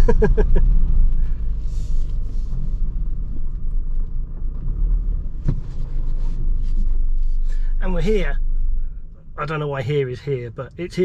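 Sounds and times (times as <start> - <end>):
van engine and tyres rumbling: 0.0 - 11.0.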